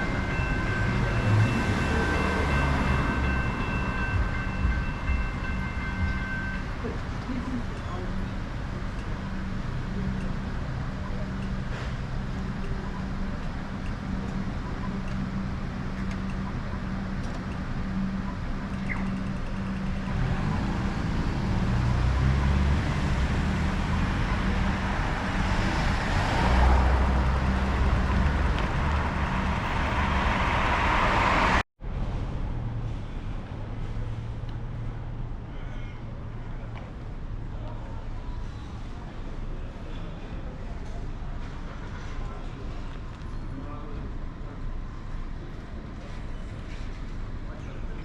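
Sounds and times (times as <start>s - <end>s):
vehicles passing close by: 0.0s - 48.0s.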